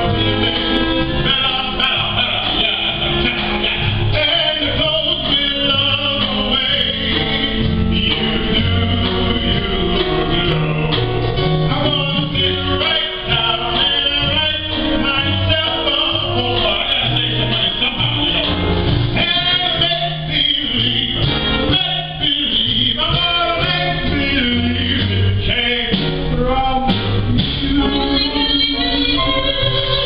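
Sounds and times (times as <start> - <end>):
jazz band playing: 0.0 - 30.0
person singing: 0.0 - 30.0.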